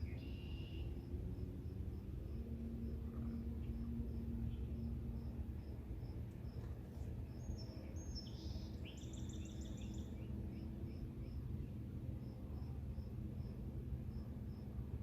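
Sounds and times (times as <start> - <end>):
cricket chirping: 0.0 - 15.0
low steady rumble: 0.0 - 15.0
songbird singing: 0.0 - 15.0.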